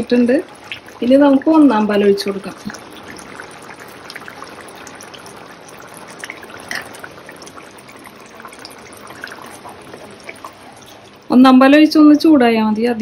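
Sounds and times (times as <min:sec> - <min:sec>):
coconut milk pouring into pot: 0:00.0 - 0:11.5.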